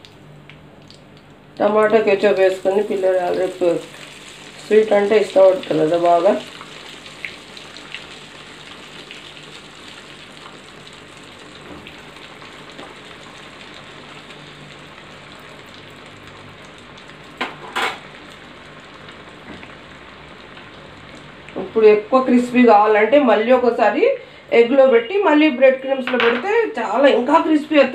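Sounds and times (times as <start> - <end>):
food deep-frying in oil: 0.0 - 25.9.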